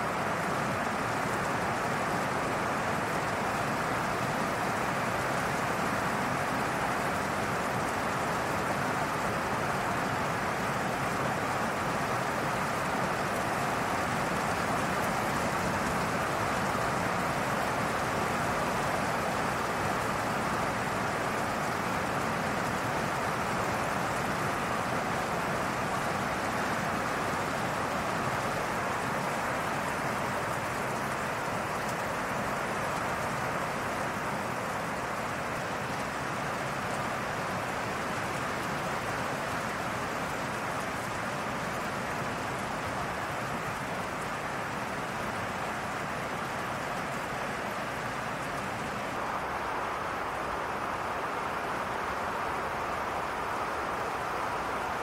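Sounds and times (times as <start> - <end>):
rain falling through leaves: 0.0 - 55.0.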